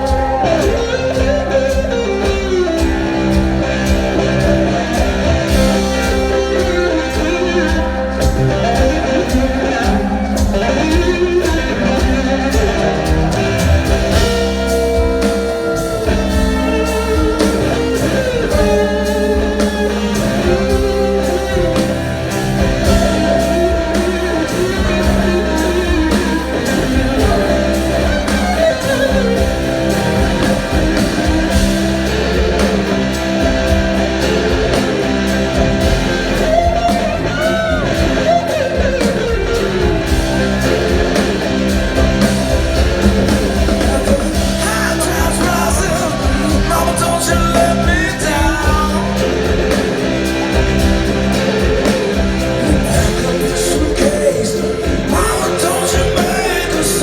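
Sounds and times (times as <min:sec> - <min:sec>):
blues-rock band playing: 0:00.0 - 0:57.0
electric guitar: 0:00.0 - 0:57.0.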